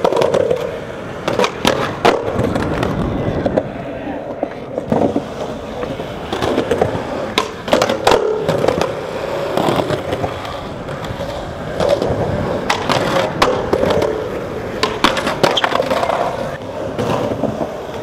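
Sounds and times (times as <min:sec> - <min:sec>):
skateboard clacking on ground: 0:00.0 - 0:18.0
skateboard wheels rolling on concrete: 0:00.0 - 0:18.0.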